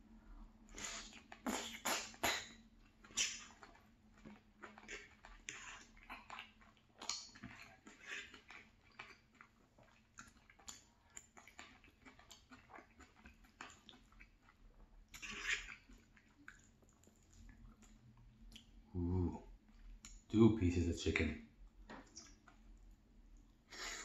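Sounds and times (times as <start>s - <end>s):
chewing food: 0.6s - 20.3s, 21.5s - 24.0s.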